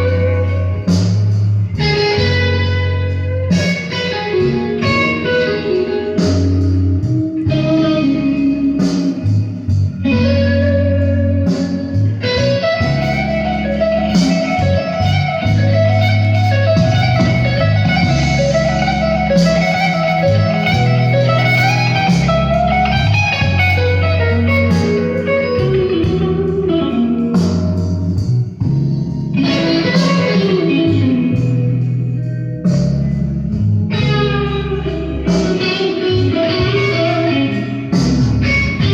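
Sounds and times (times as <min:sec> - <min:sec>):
electric guitar lines: 0:00.0 - 0:38.9
steady bass: 0:00.0 - 0:38.9.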